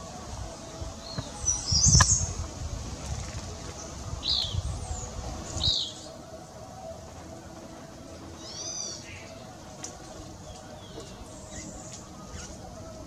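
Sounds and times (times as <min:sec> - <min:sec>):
small songbird chirping: 0:00.0 - 0:02.4, 0:03.0 - 0:06.4, 0:08.3 - 0:13.0.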